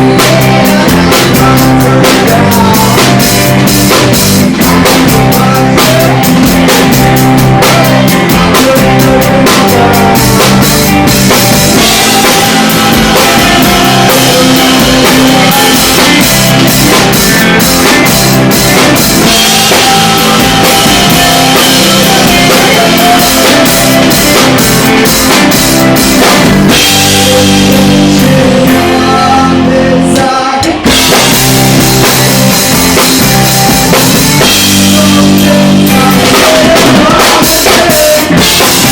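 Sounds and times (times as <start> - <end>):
drum kit: 0.0 - 38.9
rock band playing live: 0.0 - 38.9.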